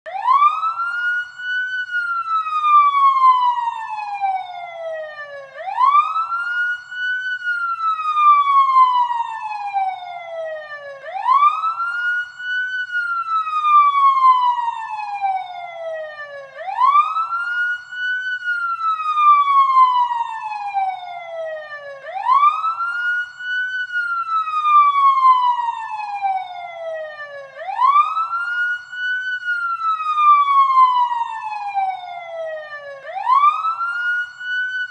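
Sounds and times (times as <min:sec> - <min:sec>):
wailing siren tone: 0:00.1 - 0:34.9.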